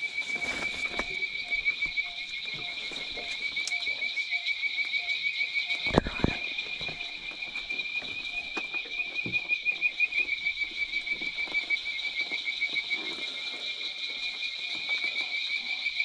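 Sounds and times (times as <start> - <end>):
frogs calling: 0.0 - 16.0.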